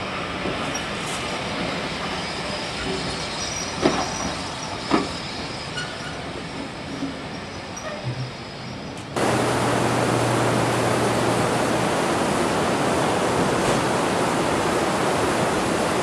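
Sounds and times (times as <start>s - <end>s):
steam hissing from locomotive: 0.0s - 16.0s.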